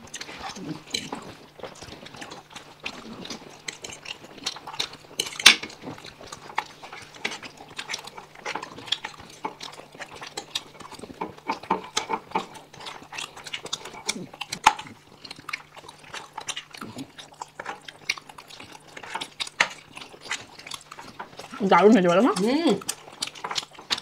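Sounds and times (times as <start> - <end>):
chewing and slurping: 0.0 - 24.0.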